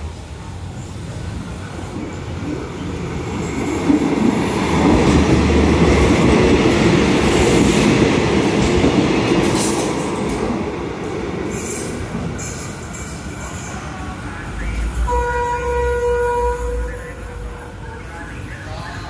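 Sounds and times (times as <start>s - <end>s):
diesel locomotive engine passing: 0.0s - 19.0s.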